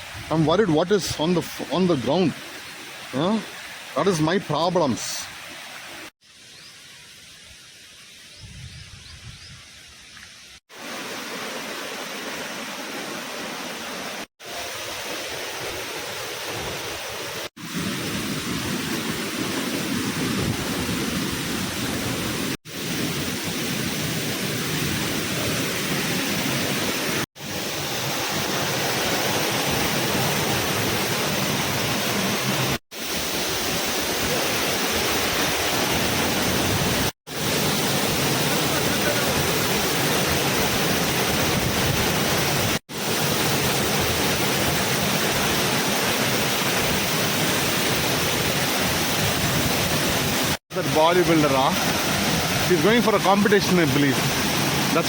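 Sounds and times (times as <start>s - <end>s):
waterfall roaring: 0.0s - 6.1s, 10.7s - 55.0s.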